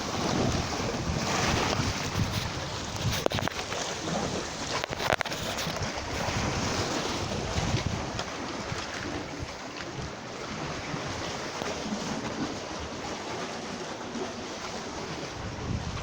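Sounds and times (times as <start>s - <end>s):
sea waves: 0.0s - 16.0s
wind buffeting microphone: 0.0s - 16.0s.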